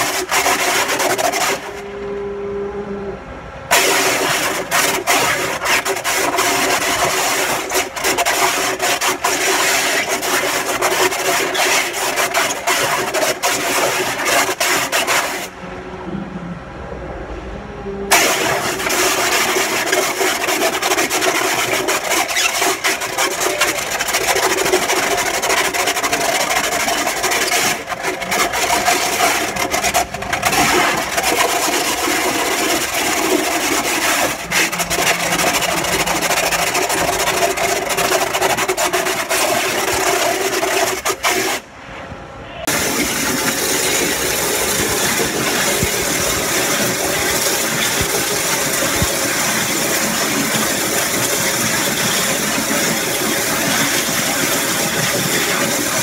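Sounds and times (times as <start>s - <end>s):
waterjet cutting hiss: 3.7s - 15.5s, 18.1s - 41.6s, 42.7s - 56.0s.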